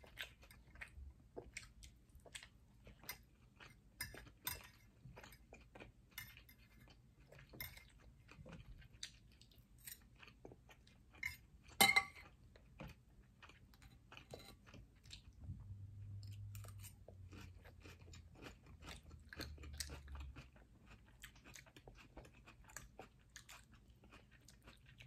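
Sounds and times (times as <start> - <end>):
close-up chewing: 0.0 - 25.0.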